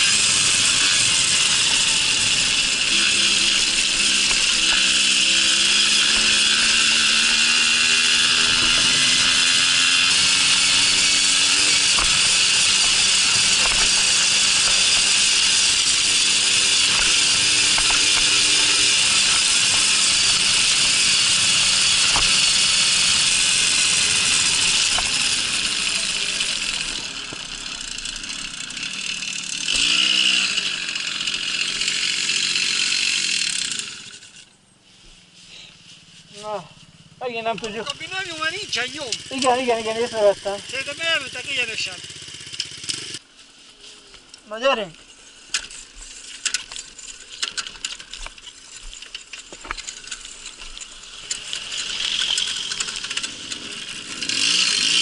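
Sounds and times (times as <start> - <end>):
moped engine running under load: 0.0 - 34.5, 35.3 - 43.4, 45.0 - 55.0.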